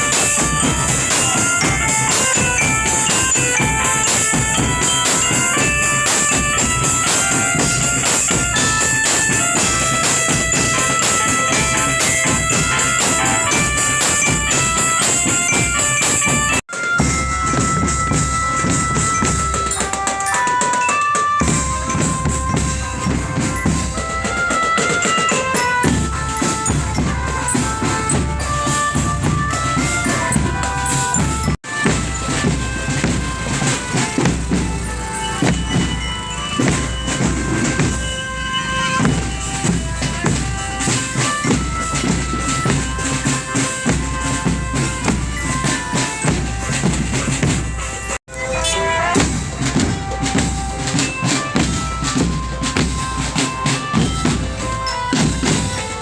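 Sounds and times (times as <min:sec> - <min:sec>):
marching drum band playing: 0:00.0 - 0:56.0.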